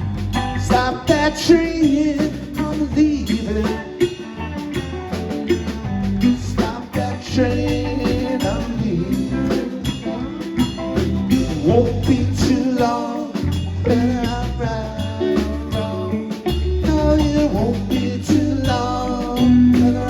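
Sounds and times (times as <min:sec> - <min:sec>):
lead guitar lines: 0:00.0 - 0:20.0
live reggae band: 0:00.0 - 0:20.0.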